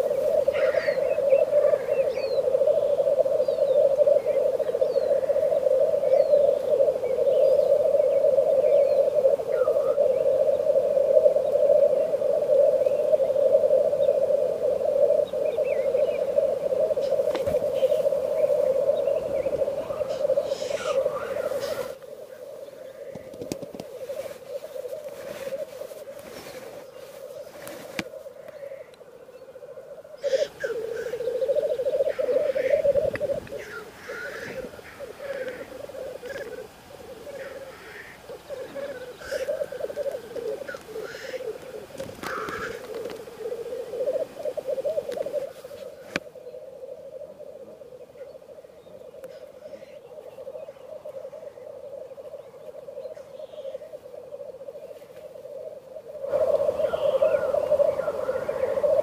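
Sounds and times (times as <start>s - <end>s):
grouse bubbling cooing song: 0.0s - 59.0s
grouse harsh hissing calls: 0.0s - 59.0s.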